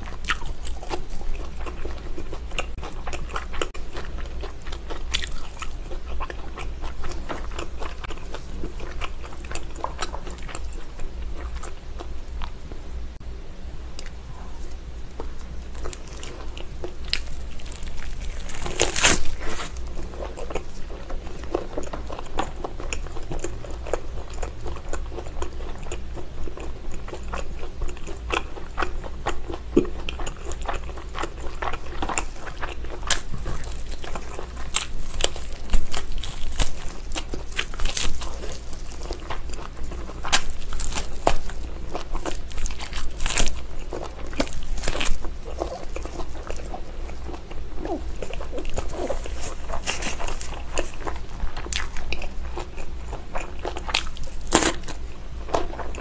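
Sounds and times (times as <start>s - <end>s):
biting and chewing meat: 0.0s - 12.6s, 15.2s - 56.0s.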